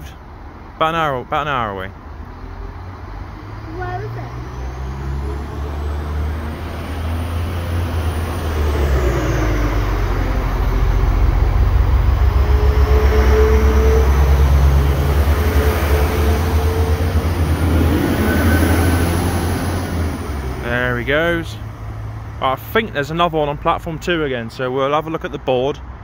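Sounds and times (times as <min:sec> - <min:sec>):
diesel train engine drone: 0:00.0 - 0:26.0.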